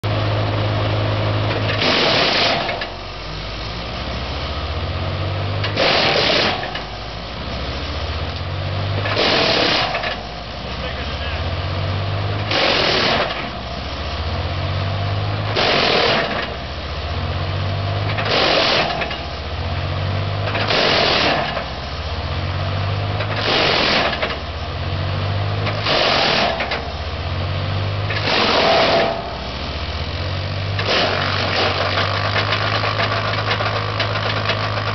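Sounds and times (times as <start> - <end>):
diesel engine running: 0.0 - 34.9
wood chipper crunching: 0.0 - 34.9.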